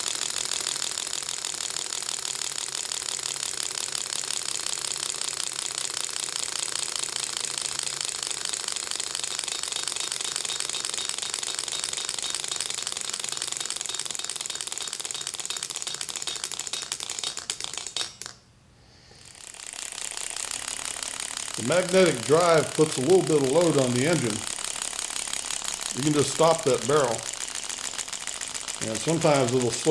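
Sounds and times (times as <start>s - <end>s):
engine running with rapid clicking: 0.0s - 18.2s, 19.2s - 29.9s.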